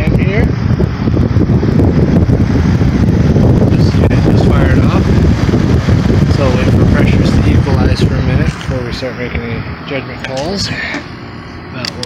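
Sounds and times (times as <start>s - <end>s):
heat pump fan rushing: 0.0s - 12.0s.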